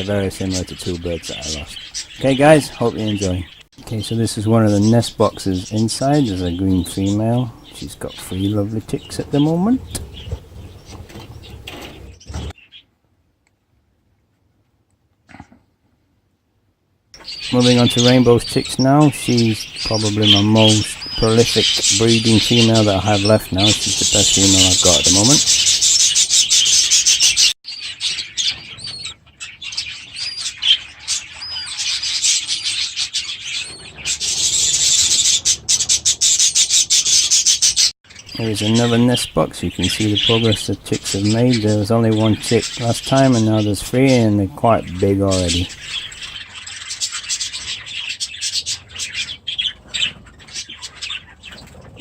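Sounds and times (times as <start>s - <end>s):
budgerigars chirping: 0.0s - 12.8s, 17.2s - 52.0s
raspy bird chatter: 0.0s - 12.8s, 17.2s - 52.0s.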